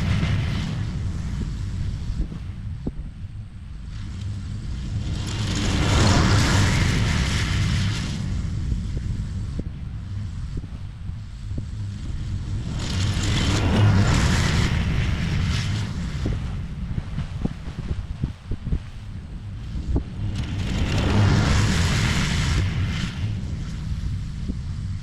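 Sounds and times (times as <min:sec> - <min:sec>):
ride-on mower engine rumble: 0:00.0 - 0:25.0
rushing noise of grass cutting: 0:00.0 - 0:25.0.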